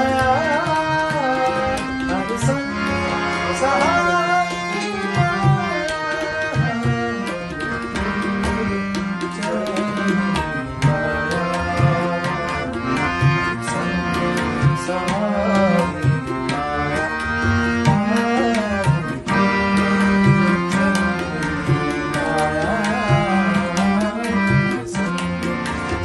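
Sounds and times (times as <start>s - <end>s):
harmonium playing chords and melody: 0.0s - 26.0s
tabla drumming: 0.0s - 26.0s.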